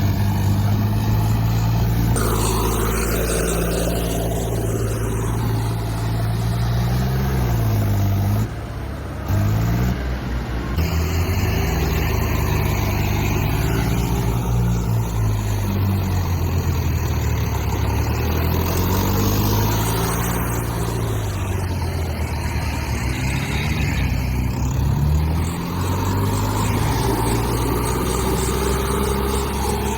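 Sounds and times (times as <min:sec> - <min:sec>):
diesel engine revving: 0:00.0 - 0:29.9.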